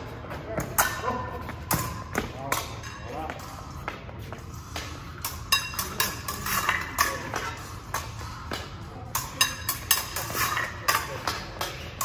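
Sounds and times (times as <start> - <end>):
footwork on fencing strip: 0.0 - 12.0
fencing blades clinking: 0.6 - 12.0.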